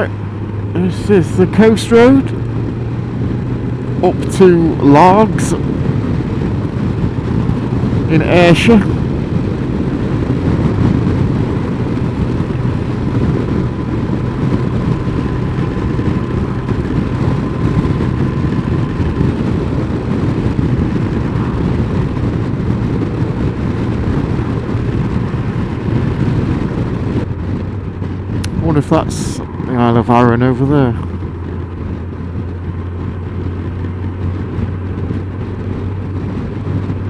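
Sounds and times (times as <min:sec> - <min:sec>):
motorcycle engine cruising: 0:00.0 - 0:37.0
riding wind on microphone: 0:00.0 - 0:37.0.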